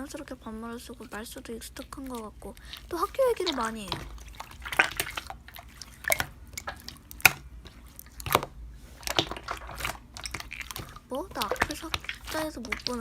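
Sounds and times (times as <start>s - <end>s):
slime squelching by hand: 0.0s - 13.0s
wet sticky pops: 1.0s - 13.0s.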